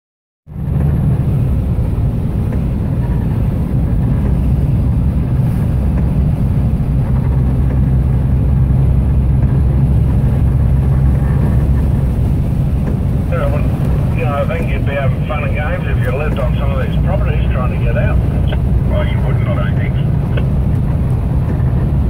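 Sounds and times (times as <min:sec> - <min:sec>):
truck engine drone: 0:00.5 - 0:22.0.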